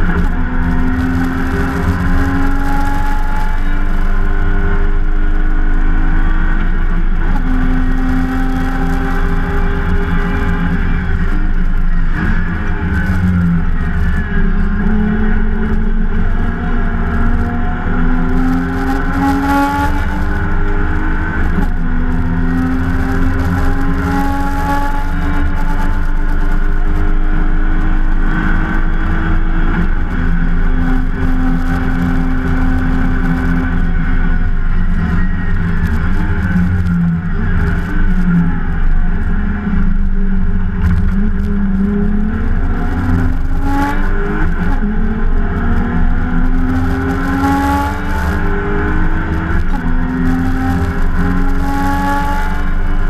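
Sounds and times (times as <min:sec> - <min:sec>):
race car engine under load: 0:00.0 - 0:53.0.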